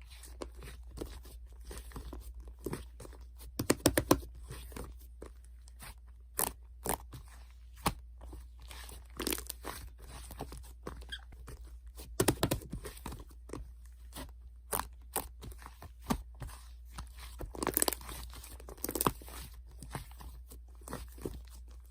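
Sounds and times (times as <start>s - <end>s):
slime squishing by hand: 0.0s - 21.9s.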